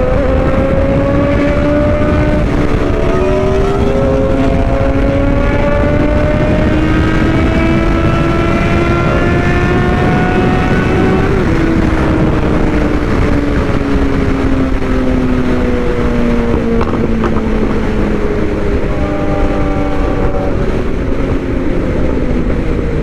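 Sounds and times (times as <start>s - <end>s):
wind rushing: 0.0s - 23.0s.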